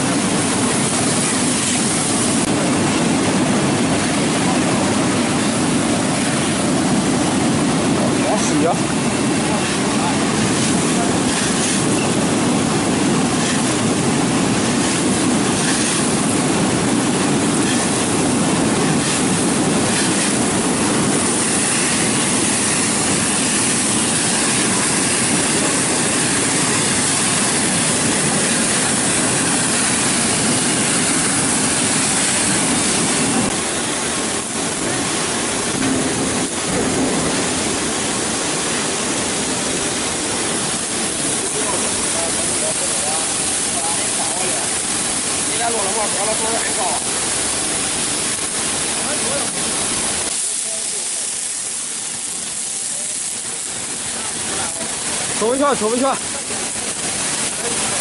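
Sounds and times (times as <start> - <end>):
spray nozzles showering: 0.0 - 58.0.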